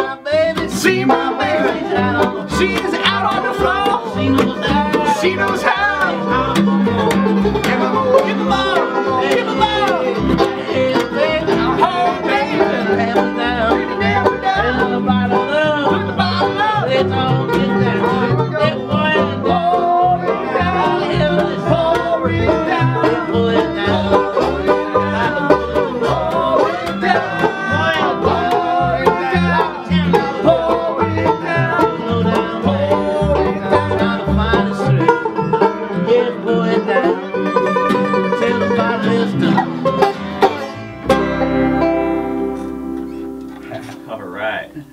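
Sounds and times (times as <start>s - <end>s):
acoustic guitar: 0.0s - 44.9s
banjo picking: 0.0s - 44.9s
plucked upright bass: 0.0s - 44.9s.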